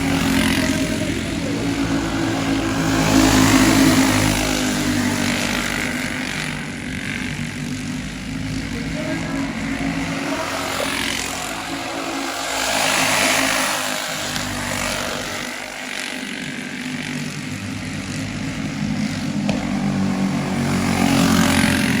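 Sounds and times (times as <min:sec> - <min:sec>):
go-kart engines at high revs: 0:00.0 - 0:22.0.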